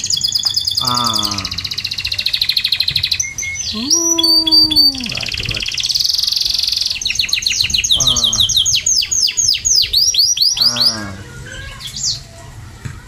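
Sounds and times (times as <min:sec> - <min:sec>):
canary singing: 0:00.0 - 0:12.3.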